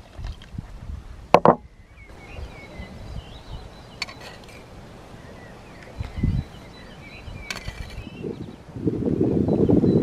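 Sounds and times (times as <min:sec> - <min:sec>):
songbirds chirping: 0:01.2 - 0:10.0.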